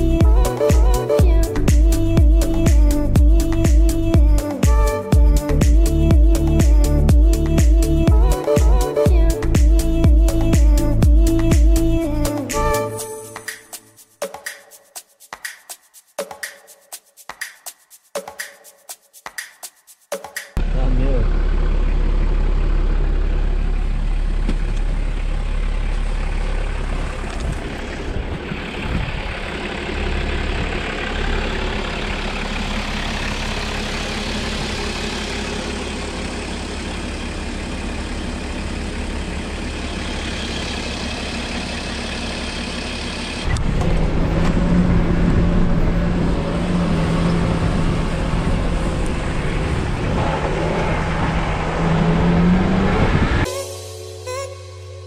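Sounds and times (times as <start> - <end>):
vehicle engine and road rumble: 0.0 - 14.0, 20.6 - 53.5.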